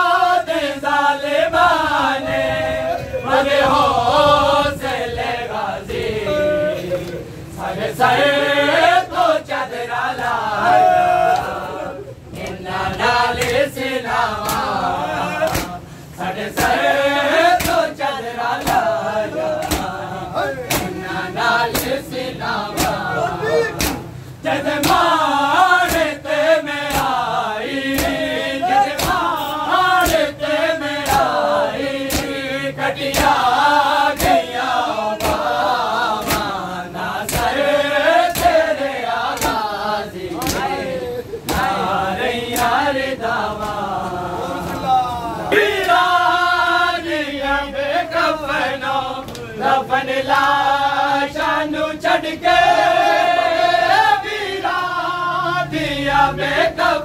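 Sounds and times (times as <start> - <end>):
men chanting in unison: 0.0 - 57.0
rhythmic sharp slaps: 6.7 - 47.1, 48.0 - 55.2.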